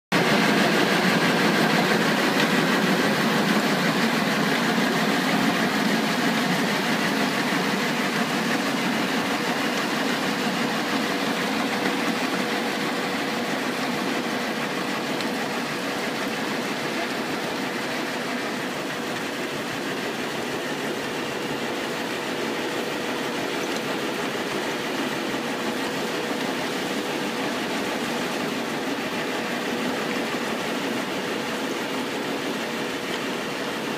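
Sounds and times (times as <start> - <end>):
compost turner mechanical roar: 0.1 - 33.9.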